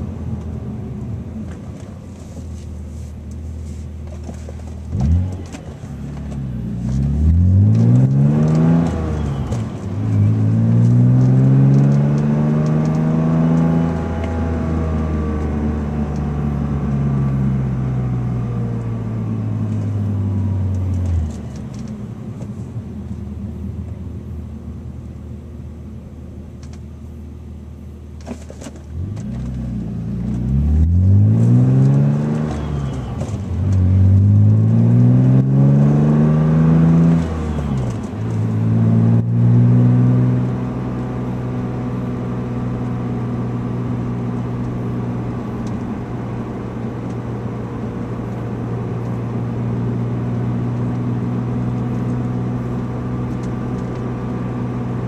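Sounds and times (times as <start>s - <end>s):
car engine accelerating: 3.4s - 24.4s, 28.8s - 55.0s.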